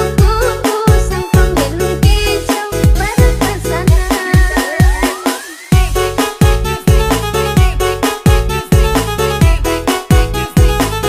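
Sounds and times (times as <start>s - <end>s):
heavy bass-drum beat: 0.0s - 11.0s.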